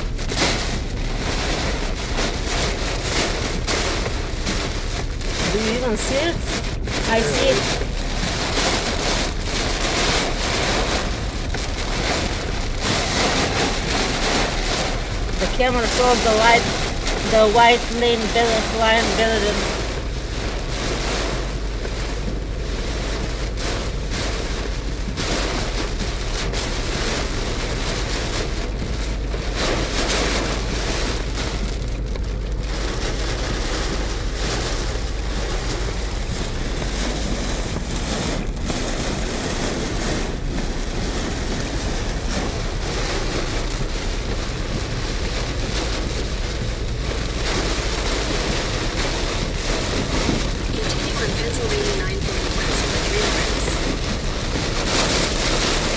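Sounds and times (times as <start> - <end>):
heavy rain on a car: 0.0 - 55.9
tyre road noise: 0.0 - 55.9.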